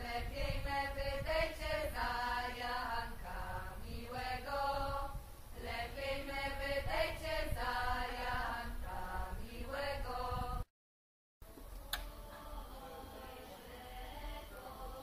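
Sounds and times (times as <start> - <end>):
women singing a cappella in harmony: 0.0 - 10.7, 11.5 - 15.0.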